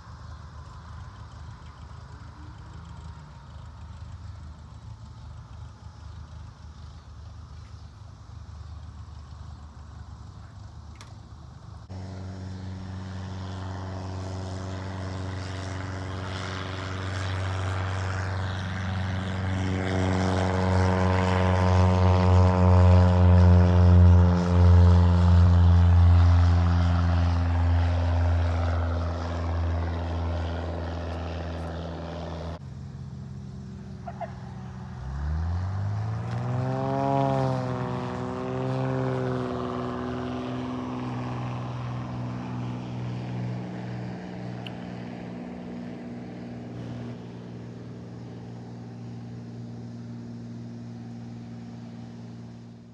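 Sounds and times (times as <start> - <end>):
propeller plane engine: 0.0 - 52.9.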